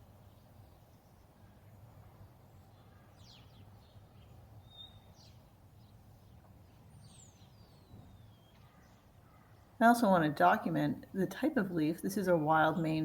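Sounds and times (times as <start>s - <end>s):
faint low hum: 0.0s - 13.0s
bird chirping: 0.1s - 13.0s.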